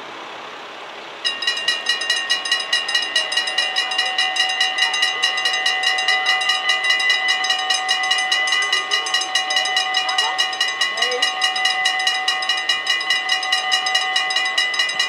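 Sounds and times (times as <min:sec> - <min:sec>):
level crossing warning bells: 0:01.2 - 0:15.0.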